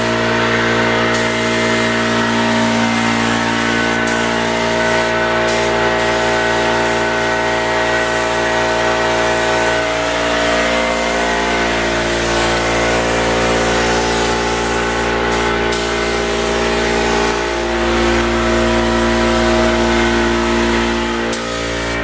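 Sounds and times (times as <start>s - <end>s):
air compressor motor running: 0.0s - 22.0s
paint spray gun hissing: 0.0s - 22.0s.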